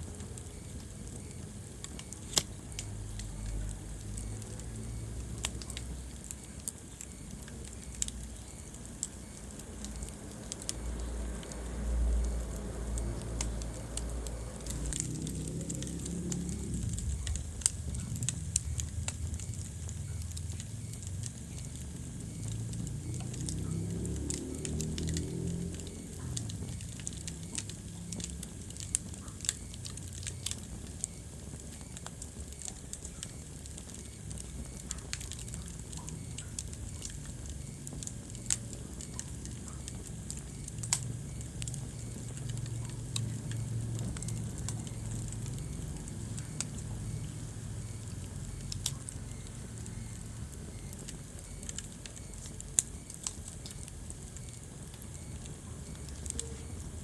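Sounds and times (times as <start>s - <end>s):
logs crackling and popping: 0.0s - 57.0s
low rumble of flames: 0.0s - 57.0s.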